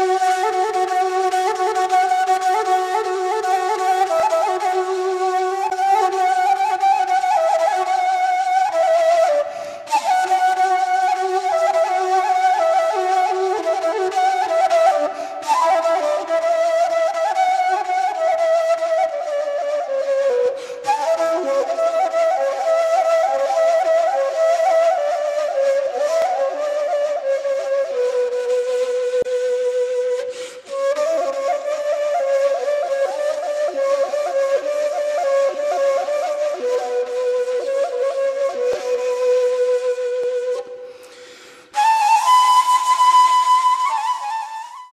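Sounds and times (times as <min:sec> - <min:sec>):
slow flute melody: 0:00.0 - 0:44.9.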